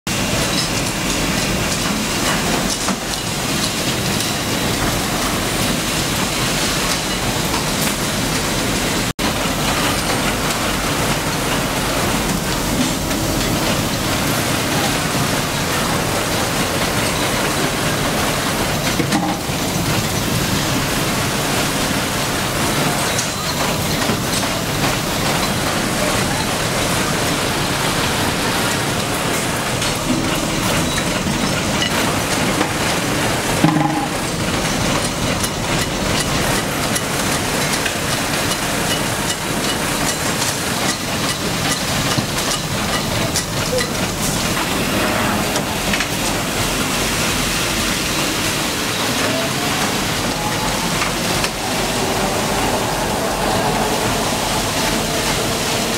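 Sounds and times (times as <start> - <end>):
factory machinery din: 0.1 - 55.9.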